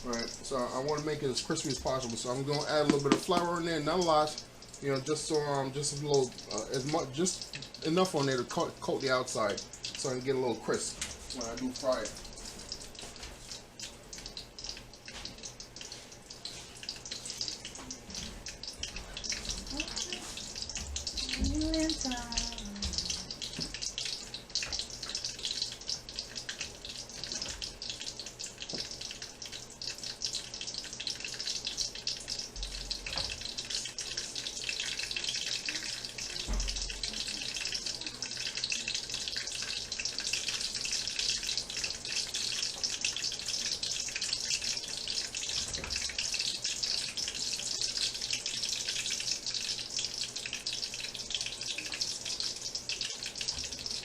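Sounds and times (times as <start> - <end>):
oil sizzling and popping: 0.0 - 54.0.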